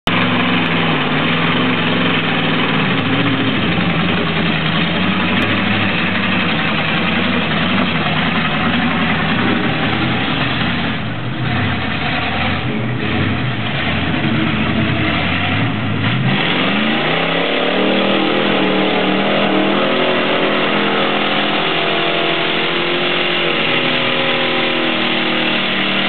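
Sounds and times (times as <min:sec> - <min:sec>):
truck engine running under load: 0:00.1 - 0:26.0
water splashing around wheels: 0:00.1 - 0:26.0.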